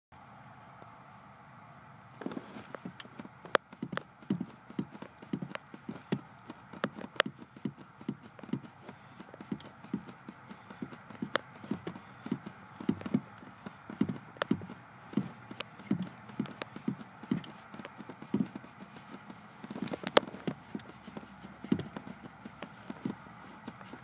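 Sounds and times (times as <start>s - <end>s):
shoe knocking on car pedal: 2.2s - 24.0s.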